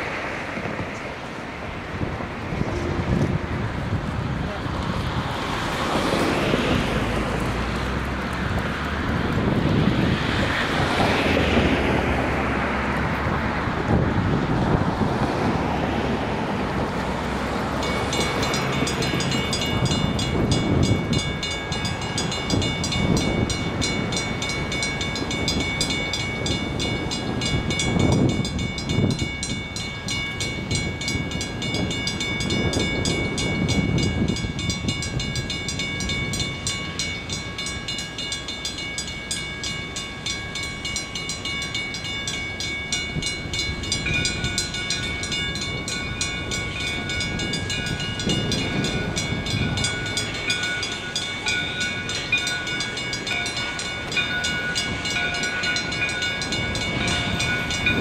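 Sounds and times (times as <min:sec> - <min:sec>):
wind rumble on microphone: 0:00.0 - 0:37.5, 0:42.4 - 0:58.0
distant steam locomotive: 0:00.0 - 0:58.0.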